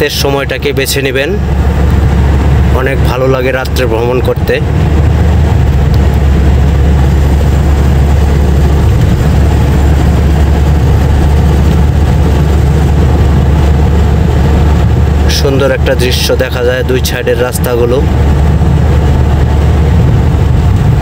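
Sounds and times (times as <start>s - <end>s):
engine and road rumble in cabin: 0.0s - 21.0s.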